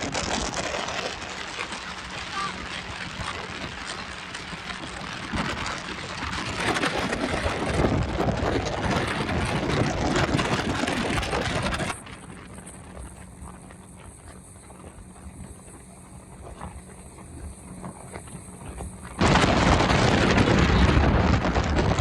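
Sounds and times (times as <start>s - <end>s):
motorboat engine hum: 0.0s - 22.0s
rushing water: 0.0s - 22.0s
wind buffeting microphone: 0.0s - 22.0s.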